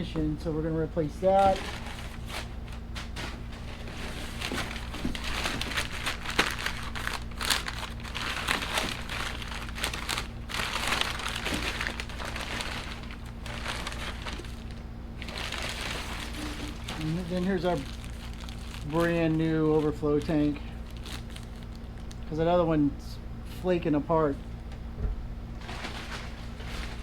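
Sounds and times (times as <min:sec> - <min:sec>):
steady low hum: 0:00.0 - 0:27.0
packaging crinkling and rustling: 0:01.4 - 0:22.4, 0:25.6 - 0:27.0.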